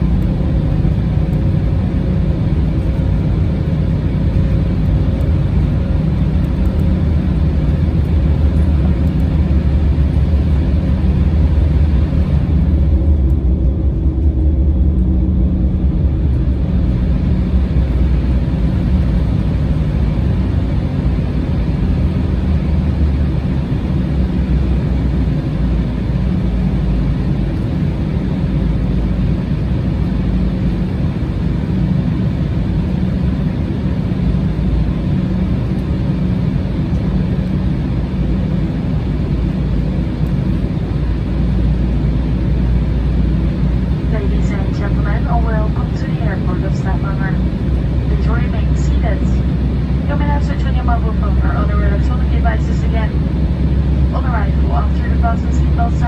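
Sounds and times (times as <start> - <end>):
jet cabin engine drone: 0.0 - 56.0
steady hum: 0.0 - 56.0.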